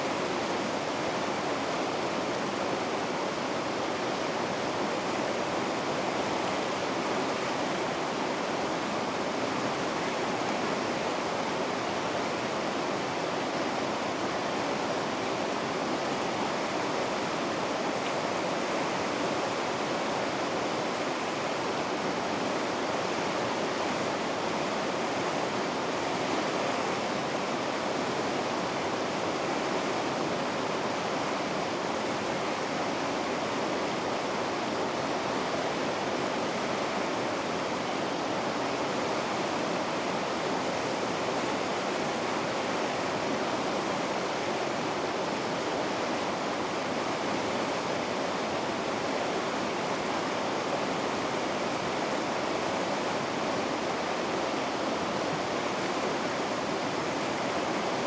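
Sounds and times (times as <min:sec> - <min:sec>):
rapids roaring: 0:00.0 - 0:58.0.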